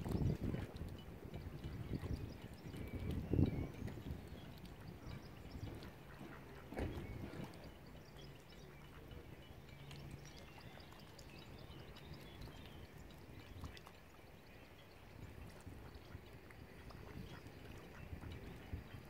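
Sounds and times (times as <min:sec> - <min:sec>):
water lapping and dripping: 0:00.0 - 0:19.0.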